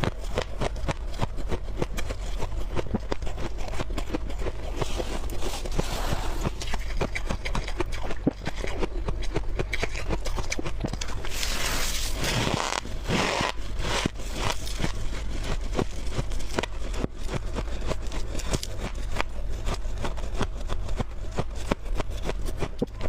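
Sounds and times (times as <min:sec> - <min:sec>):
frost being scraped: 0:01.4 - 0:08.8, 0:09.9 - 0:23.0.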